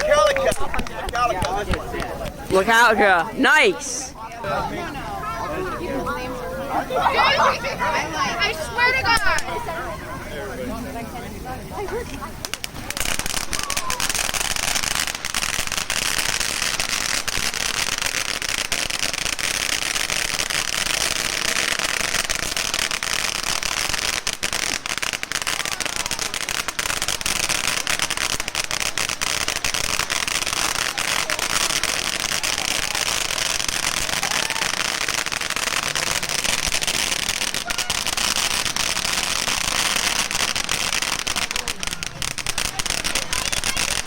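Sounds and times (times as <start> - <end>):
fireworks crackling: 0.0 - 44.0.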